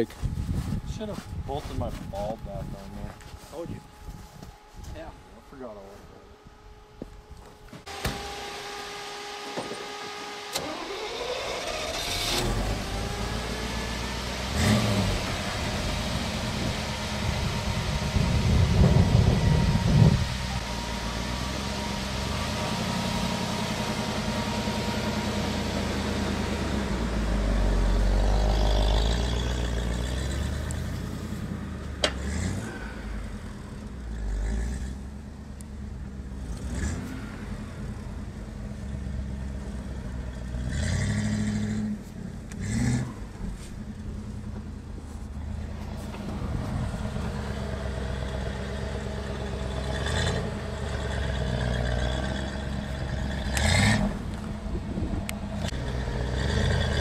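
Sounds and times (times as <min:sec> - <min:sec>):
car engine idling: 0:00.0 - 0:34.3, 0:34.9 - 0:36.6, 0:37.2 - 0:40.7, 0:41.8 - 0:57.0.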